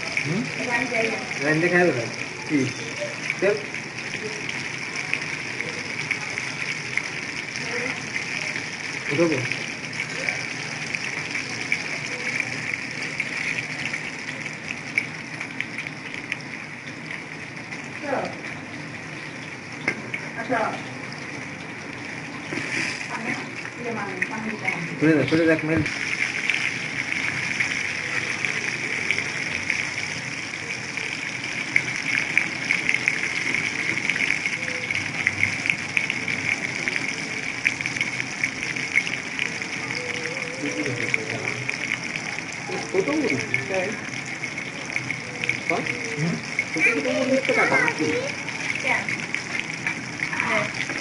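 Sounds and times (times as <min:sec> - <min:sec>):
food deep-frying in oil: 0:00.0 - 0:51.0.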